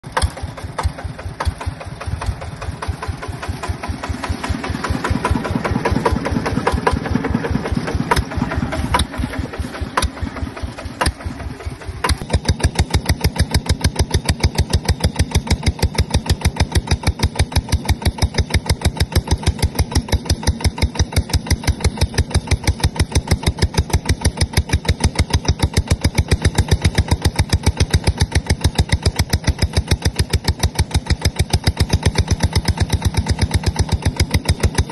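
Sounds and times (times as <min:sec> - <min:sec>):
diesel engine chugging: 0:00.0 - 0:34.9.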